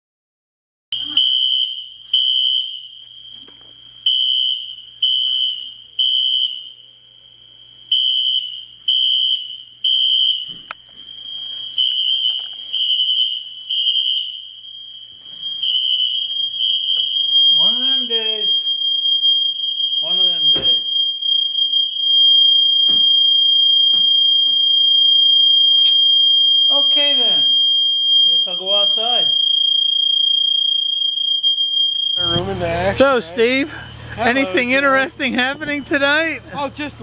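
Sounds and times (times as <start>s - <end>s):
fire alarm beeping: 0.9s - 37.0s.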